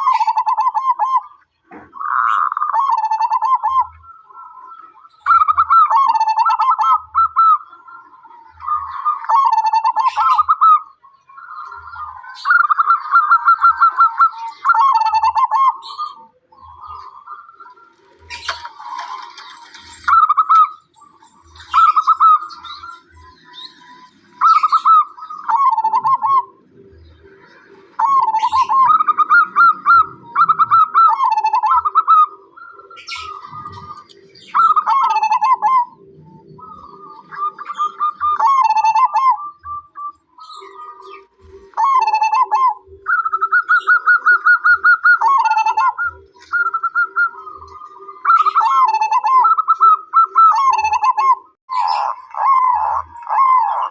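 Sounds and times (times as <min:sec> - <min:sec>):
dove stuttering cooing: 0:00.0 - 0:53.9
low pulsing coo: 0:00.0 - 0:53.9.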